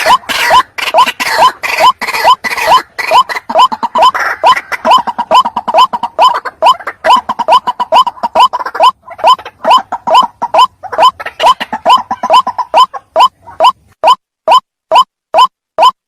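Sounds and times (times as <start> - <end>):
waterhen calling rapid rising notes: 0.0 - 16.0.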